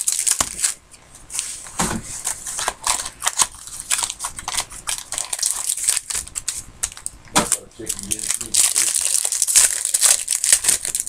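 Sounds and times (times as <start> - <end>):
card pack wrapper crinkling: 0.0 - 0.8, 2.2 - 11.0.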